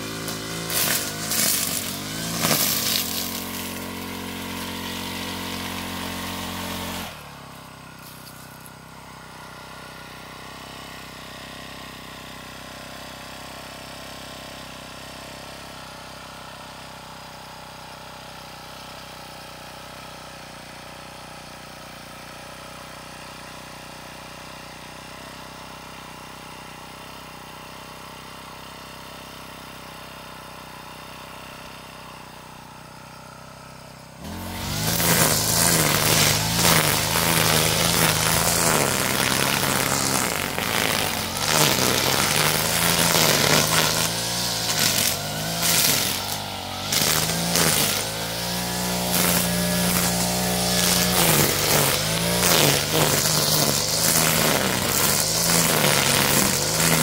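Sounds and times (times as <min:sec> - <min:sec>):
brush cutter engine running: 0:00.0 - 0:57.0.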